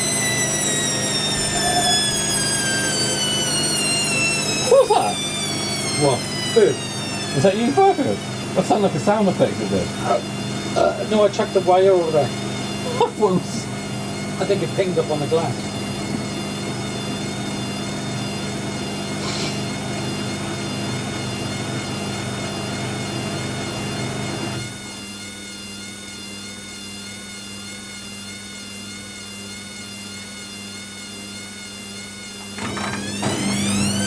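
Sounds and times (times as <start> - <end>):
washer dryer drum motor whine: 0.0 - 34.0.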